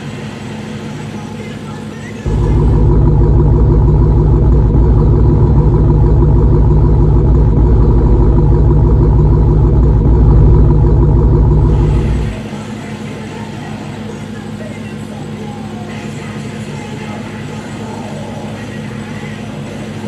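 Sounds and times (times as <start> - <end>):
loud car engine running: 0.0 - 20.0.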